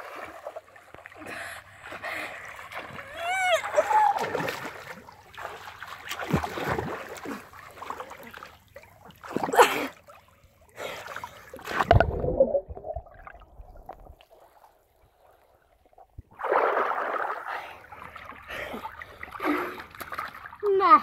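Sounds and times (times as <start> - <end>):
water splashing: 0.0 - 21.0.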